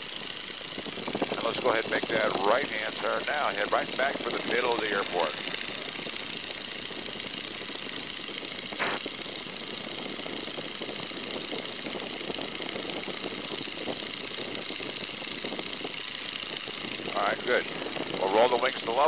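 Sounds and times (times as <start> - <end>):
propeller plane engine in flight: 0.0 - 19.0.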